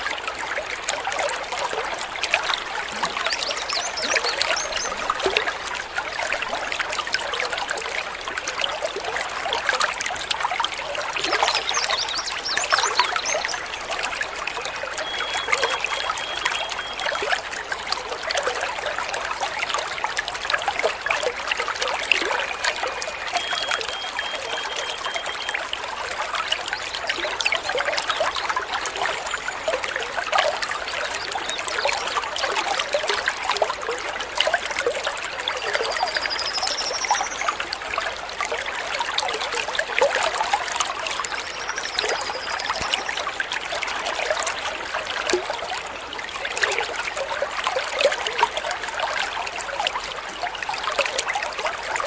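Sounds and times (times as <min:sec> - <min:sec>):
stream trickling and babbling: 0:00.0 - 0:52.0.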